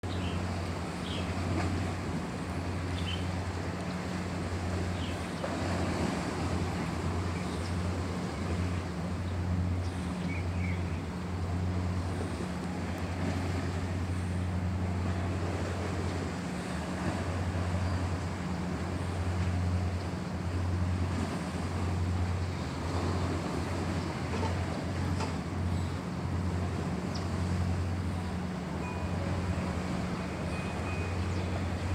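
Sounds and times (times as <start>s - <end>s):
boat engine humming: 0.0s - 31.9s
water rushing: 0.0s - 31.9s.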